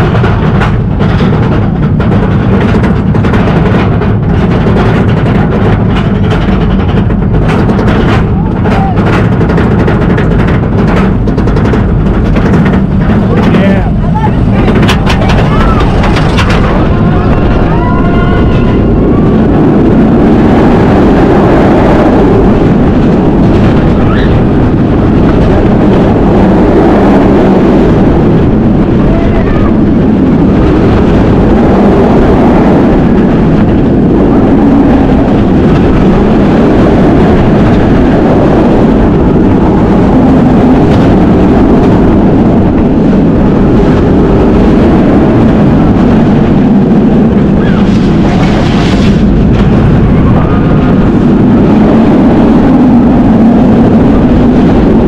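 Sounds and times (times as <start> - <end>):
roller coaster train rumbling on track: 0.0 - 55.0
wind rush: 0.0 - 55.0.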